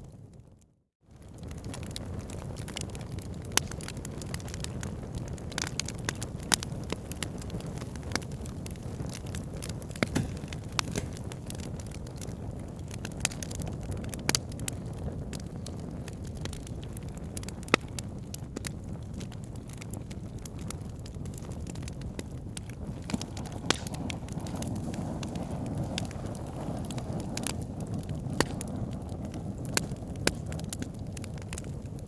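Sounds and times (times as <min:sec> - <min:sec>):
wood fire crackling and popping: 0:01.1 - 0:32.0.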